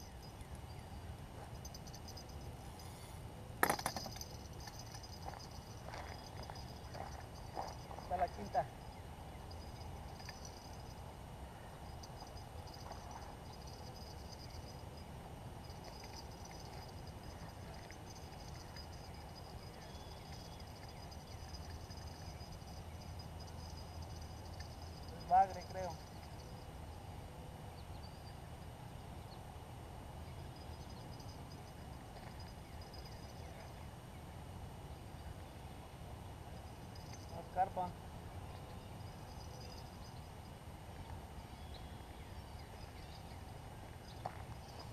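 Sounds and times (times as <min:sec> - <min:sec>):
faint high-pitched chirping: 0:00.0 - 0:03.0, 0:04.1 - 0:26.9, 0:27.6 - 0:29.4, 0:30.2 - 0:34.4, 0:36.5 - 0:44.9
outdoor background noise: 0:00.0 - 0:44.9.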